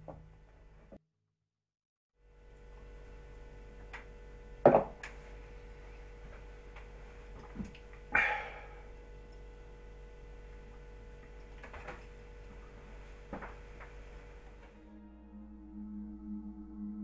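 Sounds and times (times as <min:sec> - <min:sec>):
low room hum: 0:02.2 - 0:17.0.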